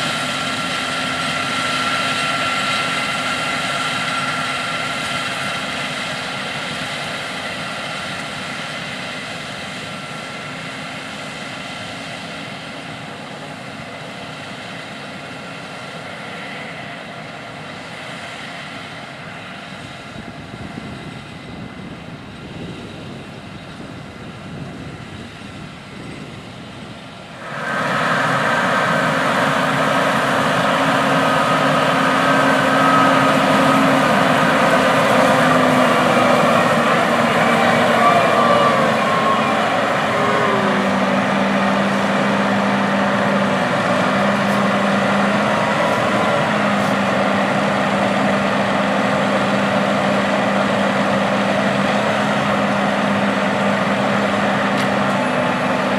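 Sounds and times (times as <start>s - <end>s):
diesel machinery engine whining: 0.0s - 55.9s.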